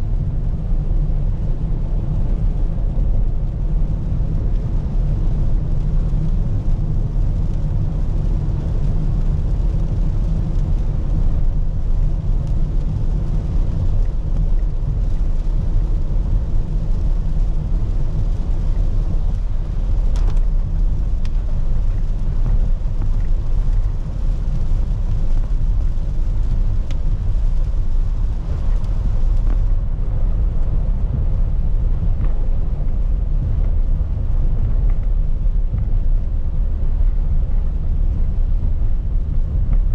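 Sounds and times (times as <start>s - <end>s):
rain hiss: 0.0s - 39.9s
tyres and engine rumble: 0.0s - 39.9s.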